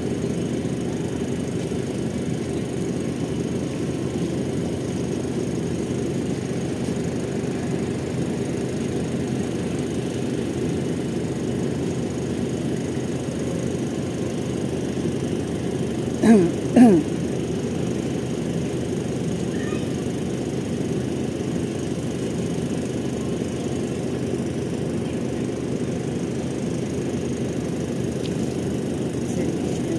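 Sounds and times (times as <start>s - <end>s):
low engine rumble: 0.0s - 29.9s.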